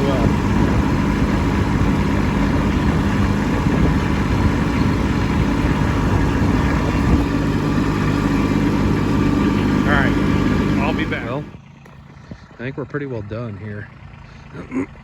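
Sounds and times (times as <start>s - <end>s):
tractor diesel engine running: 0.0s - 14.7s.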